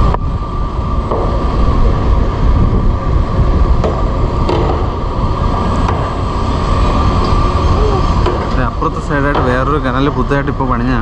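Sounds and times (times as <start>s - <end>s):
electric locomotive running on rails: 0.0s - 11.0s.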